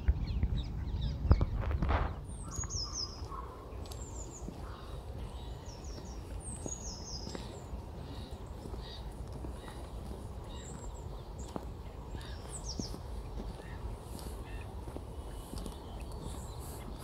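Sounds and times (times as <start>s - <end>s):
small songbird singing: 0.0s - 17.0s.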